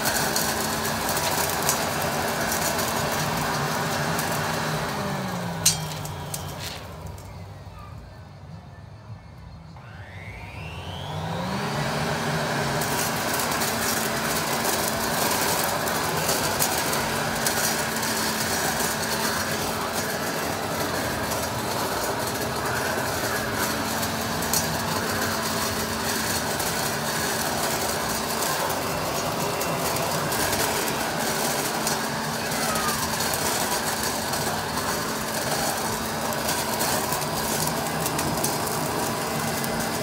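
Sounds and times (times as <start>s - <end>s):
electric leaf blower vacuum running: 0.0s - 7.5s, 9.7s - 40.0s
leaves crackling through vacuum: 0.0s - 40.0s.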